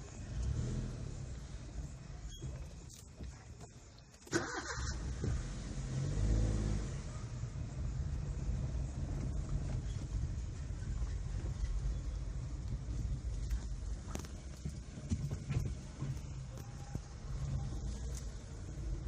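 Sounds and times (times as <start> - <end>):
car engine starting and running: 0.0 - 19.0.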